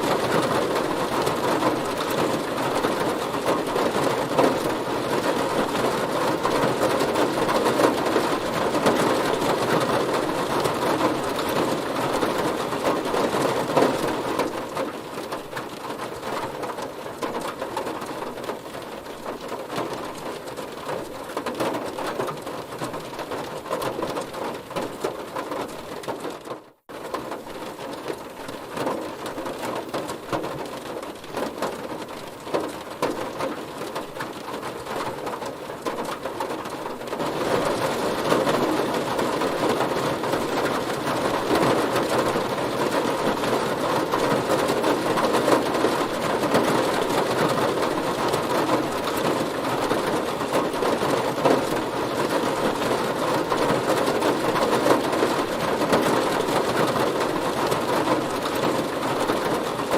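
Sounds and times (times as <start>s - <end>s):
rain drumming on car body: 0.0s - 59.9s.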